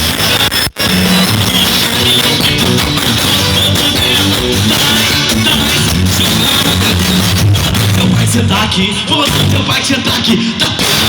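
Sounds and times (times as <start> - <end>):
live band instrumental with guitar: 0.0 - 8.6, 9.2 - 11.0.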